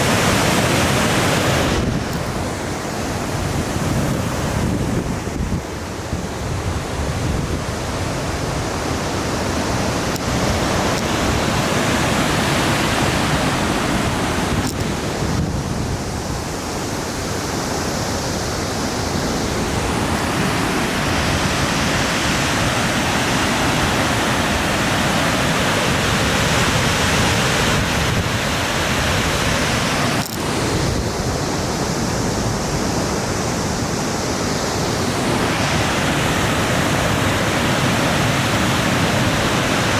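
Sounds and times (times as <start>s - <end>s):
waterfall rushing loudly: 0.0s - 39.9s.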